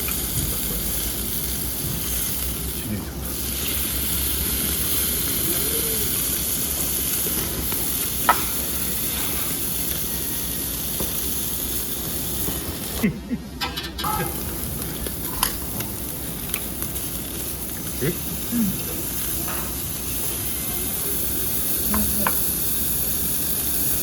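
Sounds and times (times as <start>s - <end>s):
meat sizzling on a grill: 0.0s - 24.0s.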